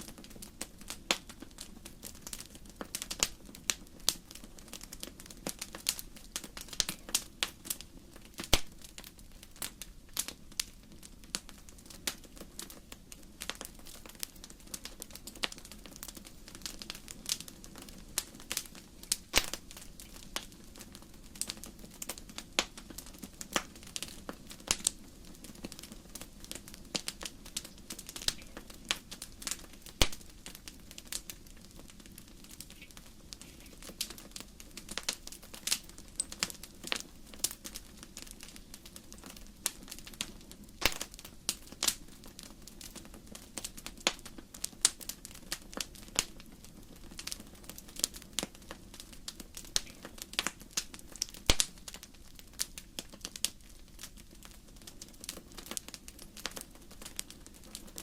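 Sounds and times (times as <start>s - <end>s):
wood fire crackling and popping: 0.0s - 58.0s
fire hissing: 0.1s - 52.8s.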